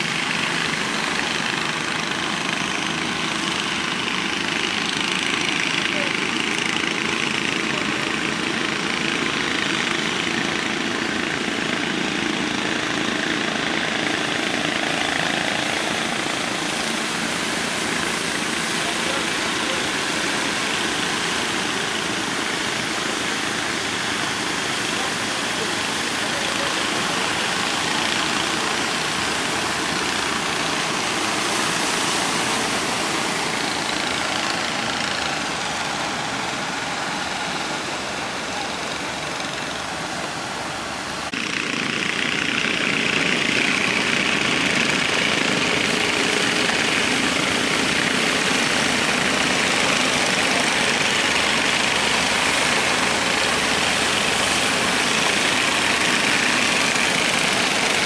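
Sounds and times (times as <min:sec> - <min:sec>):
boat engine running: 0:00.0 - 0:58.0
heavy surf breaking: 0:00.0 - 0:58.0.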